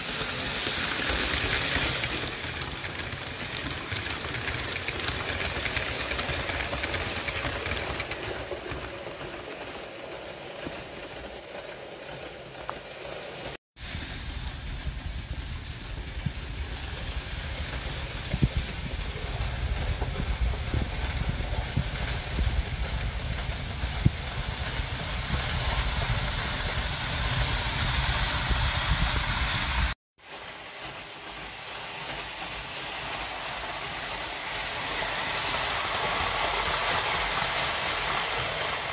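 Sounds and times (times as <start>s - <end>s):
model train rumble and whirr: 0.0s - 38.9s.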